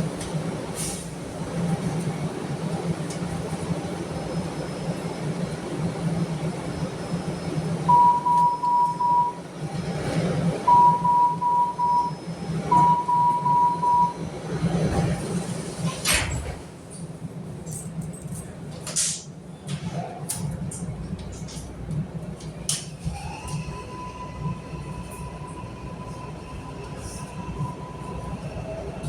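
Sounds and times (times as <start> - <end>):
rail car humming: 0.0 - 29.0.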